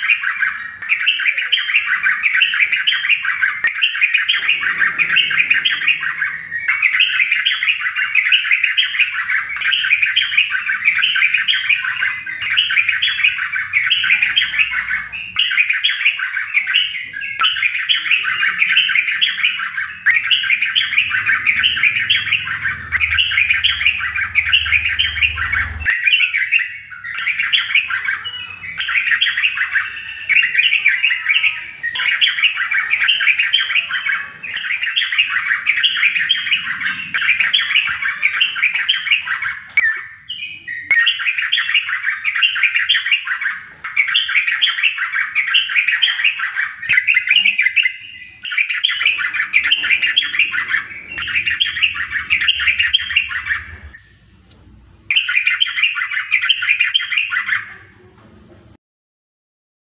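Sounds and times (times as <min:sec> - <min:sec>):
bird singing chattering phrases: 0:00.0 - 0:58.8.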